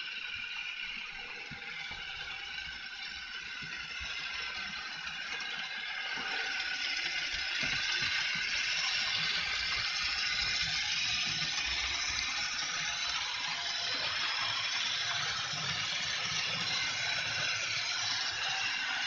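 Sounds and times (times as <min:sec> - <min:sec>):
model train whir and rattle: 0:00.0 - 0:19.0.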